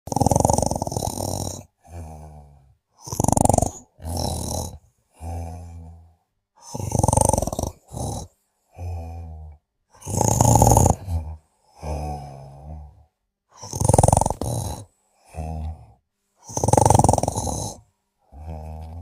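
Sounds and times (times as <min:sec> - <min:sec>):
person snoring: 0:00.1 - 0:19.0.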